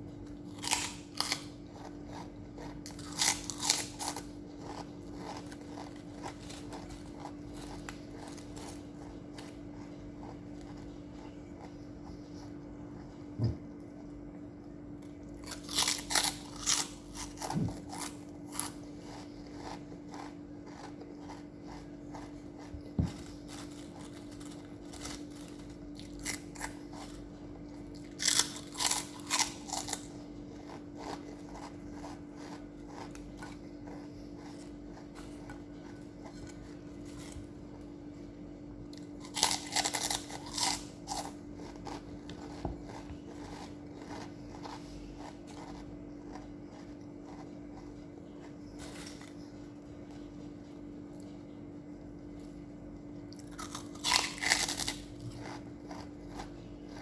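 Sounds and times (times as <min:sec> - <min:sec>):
crunchy chewing of pork rinds: 0:00.0 - 0:57.0
steady low hum: 0:00.0 - 0:57.0.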